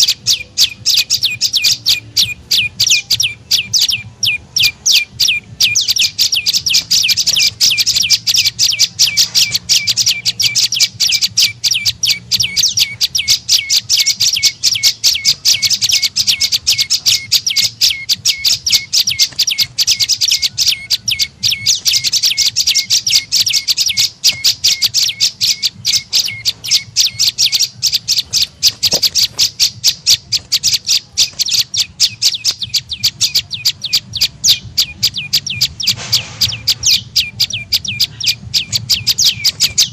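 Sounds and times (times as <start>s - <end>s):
bird calling with sharp high chirps: 0.0s - 39.9s.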